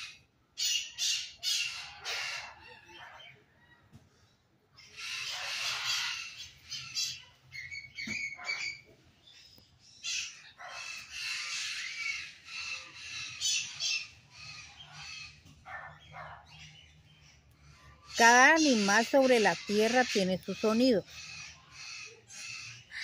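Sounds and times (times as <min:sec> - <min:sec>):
parrots squawking and screeching: 0:00.0 - 0:03.8, 0:04.7 - 0:23.0.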